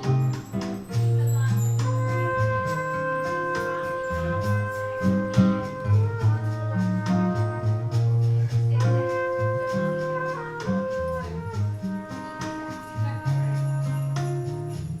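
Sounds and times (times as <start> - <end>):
jazz combo playing: 0.0 - 15.0
light percussion: 0.0 - 15.0
low guitar line: 0.0 - 15.0
sustained lead notes: 0.0 - 15.0.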